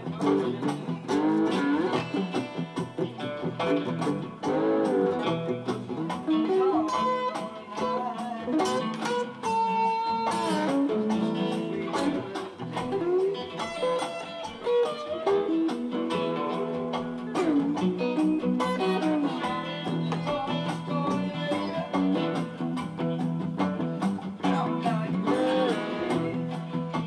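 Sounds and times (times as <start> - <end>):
acoustic guitar blues: 0.0 - 27.0
slide guitar: 0.0 - 27.0.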